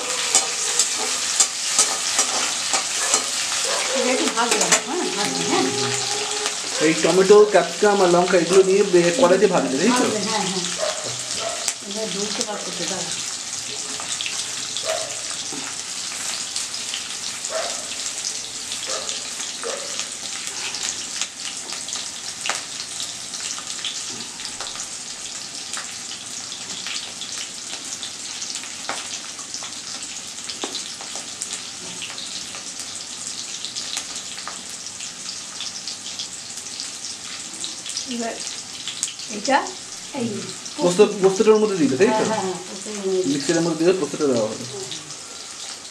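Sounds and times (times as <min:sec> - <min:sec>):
vegetables sizzling in oil: 0:00.0 - 0:45.9.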